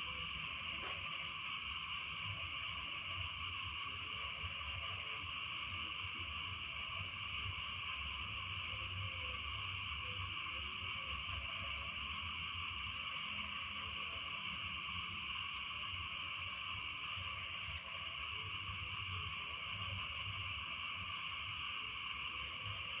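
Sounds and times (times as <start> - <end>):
frogs and insects trilling: 0.0 - 23.0.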